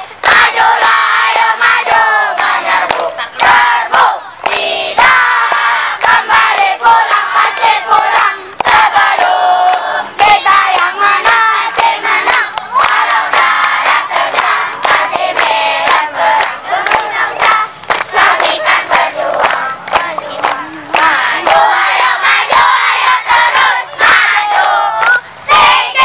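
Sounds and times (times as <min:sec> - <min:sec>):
children chanting and singing: 0:00.0 - 0:26.0
sharp claps: 0:00.0 - 0:26.0.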